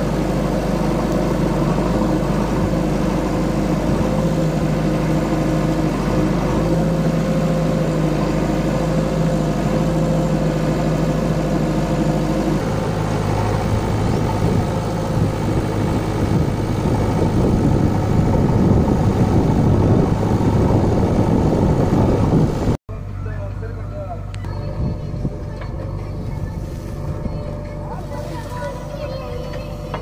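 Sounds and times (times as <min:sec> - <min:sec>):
backhoe diesel engine running: 0:00.0 - 0:30.0.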